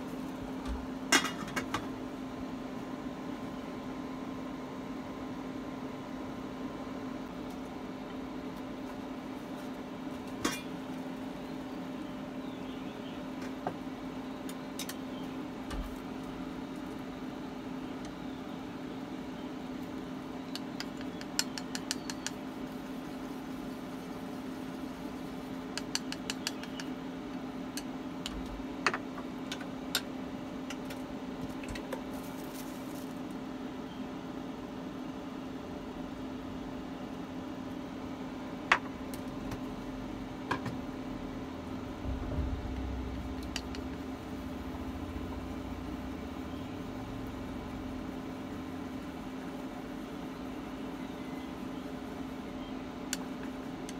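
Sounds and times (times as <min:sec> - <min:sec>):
induction cooktop hum: 0:00.0 - 0:53.9.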